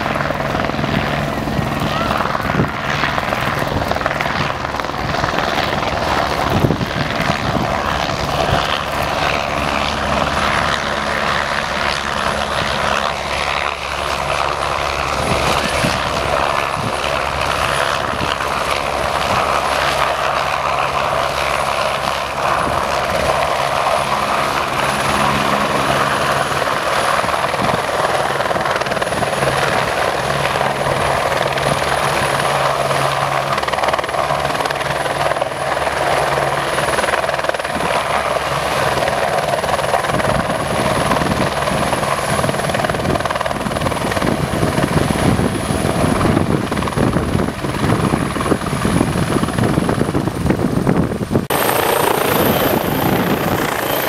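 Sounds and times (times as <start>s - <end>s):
helicopter rotor noise: 0.0s - 54.0s
high turbine whine: 0.0s - 54.0s.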